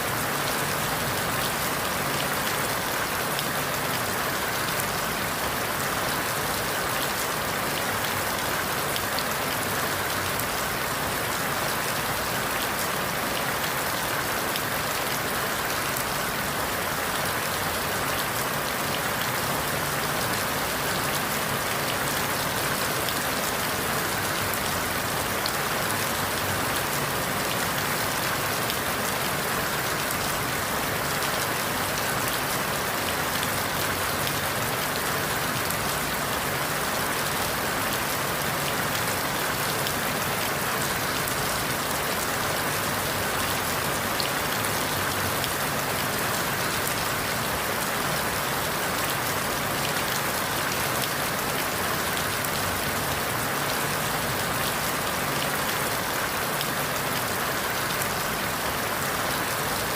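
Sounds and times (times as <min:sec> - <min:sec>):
rain falling through leaves: 0:00.0 - 0:59.9.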